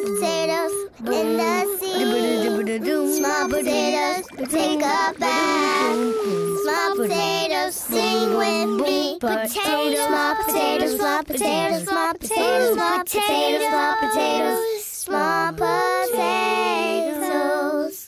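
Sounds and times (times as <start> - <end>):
high voices singing in harmony: 0.0 - 18.0.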